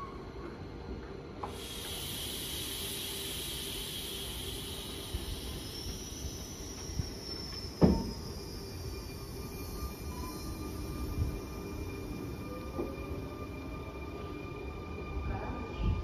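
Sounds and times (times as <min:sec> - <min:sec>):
faint high whine: 0:01.4 - 0:16.0
train hissing: 0:01.4 - 0:16.0.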